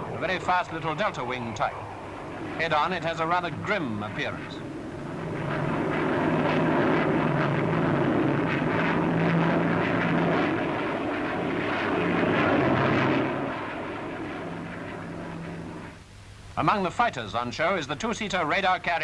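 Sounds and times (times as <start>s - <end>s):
jet roar: 0.0s - 16.0s
low hum: 0.0s - 16.2s.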